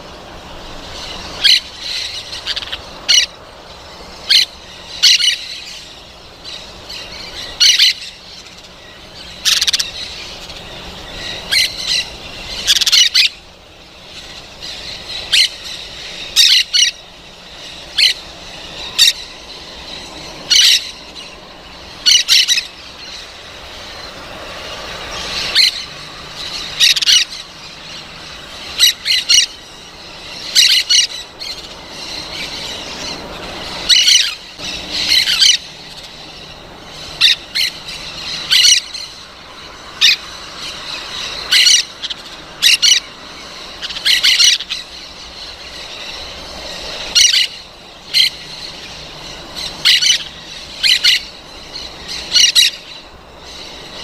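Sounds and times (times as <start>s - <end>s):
harsh parrot calls: 0.0s - 54.0s.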